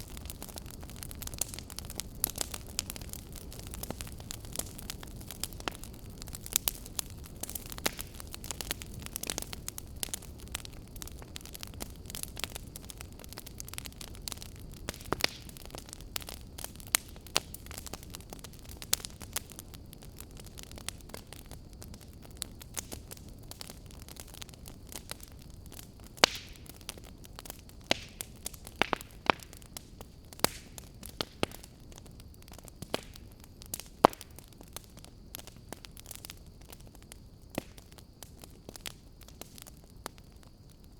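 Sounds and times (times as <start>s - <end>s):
sharp pops from fire: 0.0s - 40.9s
wood fire crackling: 0.0s - 40.9s.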